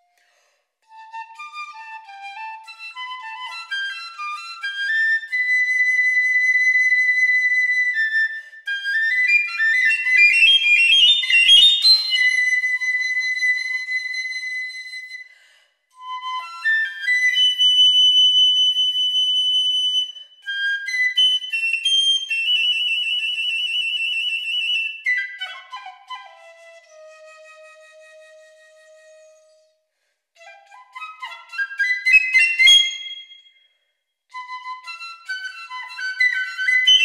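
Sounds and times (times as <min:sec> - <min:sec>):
solo piccolo melody: 0:00.8 - 0:15.3, 0:15.9 - 0:33.5, 0:34.3 - 0:37.0.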